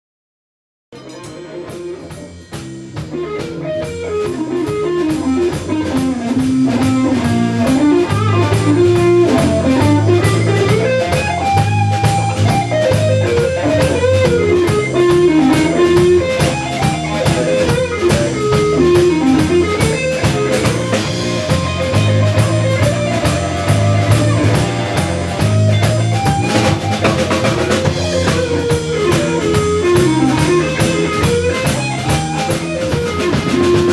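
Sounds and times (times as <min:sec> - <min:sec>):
blues-rock band playing live: 0:01.0 - 0:33.9
lead electric guitar melody: 0:01.0 - 0:33.9
steady cymbal beat: 0:01.0 - 0:33.9.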